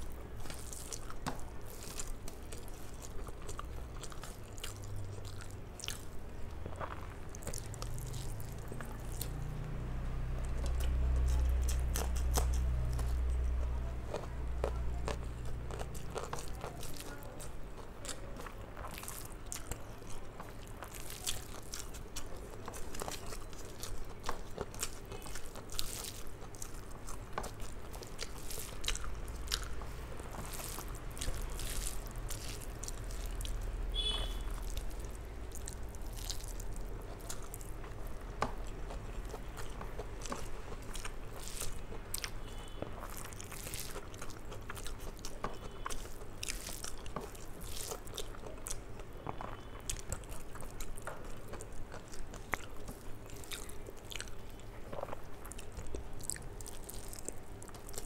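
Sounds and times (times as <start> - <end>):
wet chewing and lip smacks: 10.4 - 58.0.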